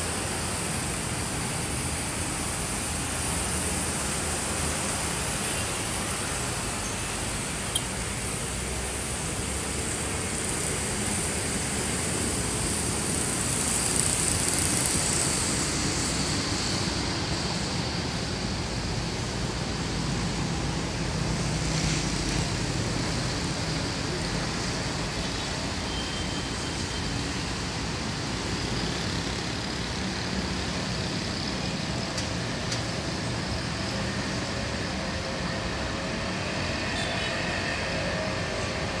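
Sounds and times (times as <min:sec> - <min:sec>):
road traffic noise: 0:00.0 - 0:39.0.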